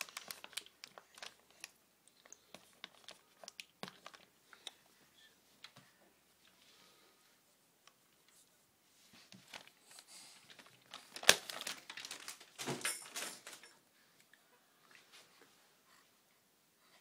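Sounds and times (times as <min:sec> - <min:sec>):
rustling and crinkling: 0:00.0 - 0:13.8.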